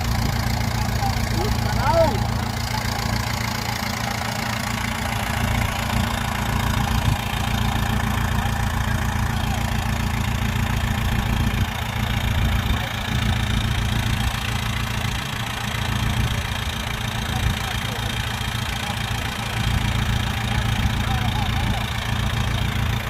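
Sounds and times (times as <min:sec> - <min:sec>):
heavy diesel engine idling: 0:00.0 - 0:23.0.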